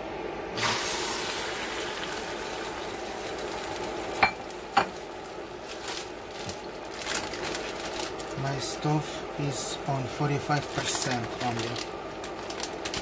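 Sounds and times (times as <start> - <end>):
eggs sizzling in frying pan: 0.6 - 13.0.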